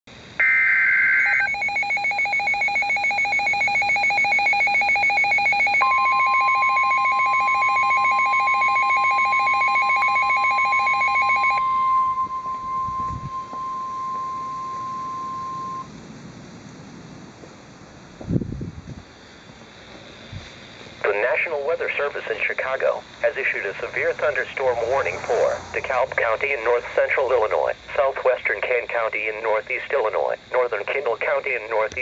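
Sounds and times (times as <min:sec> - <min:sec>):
steady warning alarm tone: 0:00.3 - 0:16.0, 0:21.0 - 0:32.0
rapid electronic alert beeping: 0:00.4 - 0:15.9, 0:21.1 - 0:32.0.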